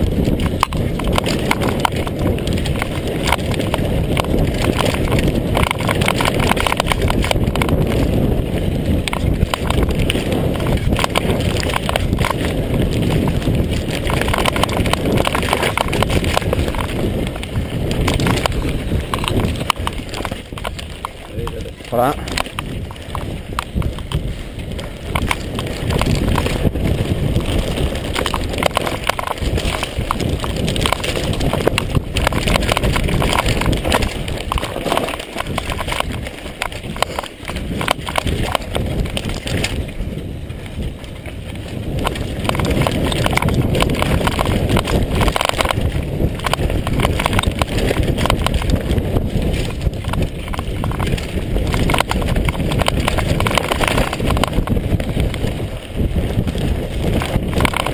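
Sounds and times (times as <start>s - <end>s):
bike frame rattling: 0.0s - 57.9s
tyres rushing on dirt and gravel: 0.0s - 57.9s.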